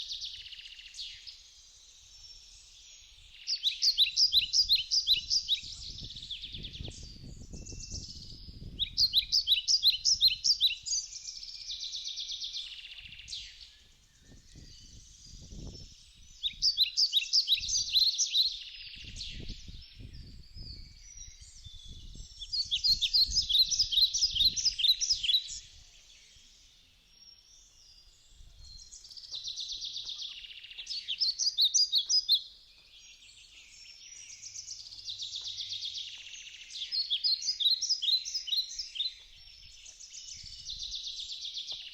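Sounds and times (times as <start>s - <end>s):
quiet bird chirps: 0.0s - 41.9s
songbird singing rapid repeated notes: 0.0s - 41.9s.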